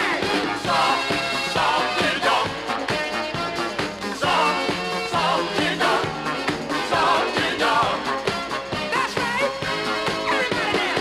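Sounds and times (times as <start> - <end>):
disco music: 0.0 - 11.0.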